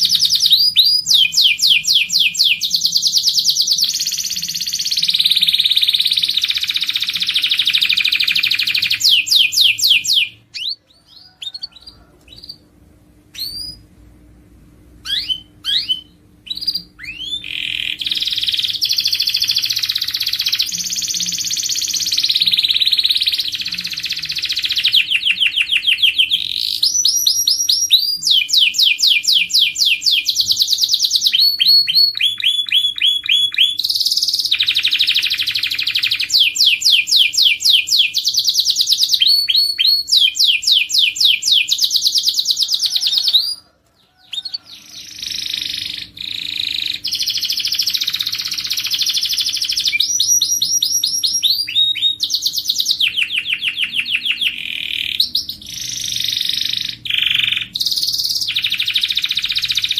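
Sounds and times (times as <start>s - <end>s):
bird chirps: 0.0s - 12.6s, 15.0s - 59.9s
canary singing trills: 0.0s - 12.7s, 13.3s - 13.9s, 15.0s - 59.9s.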